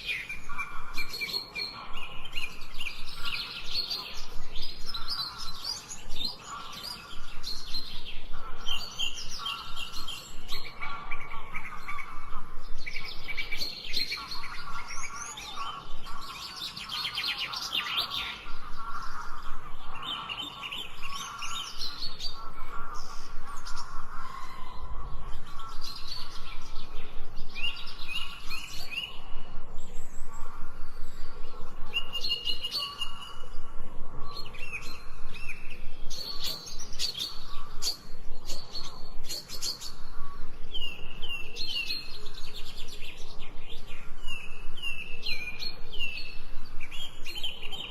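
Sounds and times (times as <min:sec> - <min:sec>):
birds singing and chirping: 0:00.0 - 0:47.9.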